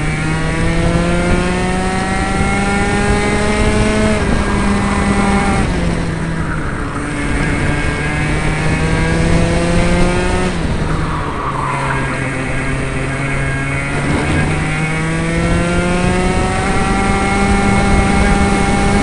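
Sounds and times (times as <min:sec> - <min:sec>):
kart engine revving: 0:00.0 - 0:19.0.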